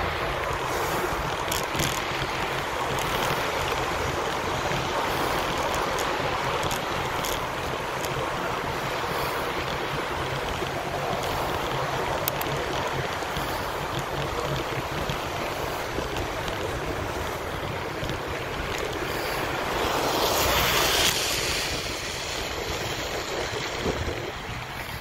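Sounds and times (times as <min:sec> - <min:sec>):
tyres hissing on wet road: 0:00.0 - 0:25.0
wind on microphone: 0:00.0 - 0:25.0.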